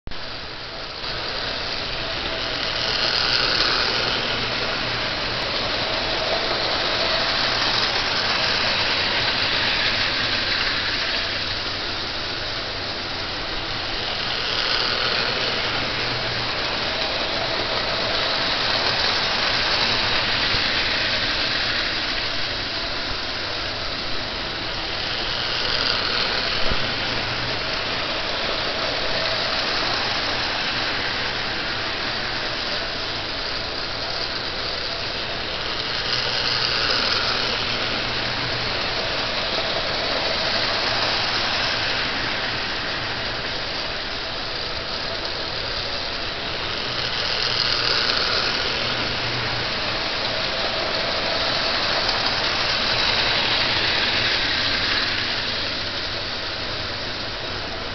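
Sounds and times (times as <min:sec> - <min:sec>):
toy train motor hum: 0:00.2 - 0:57.9
toy train wheels rattling on rails: 0:00.2 - 0:57.9.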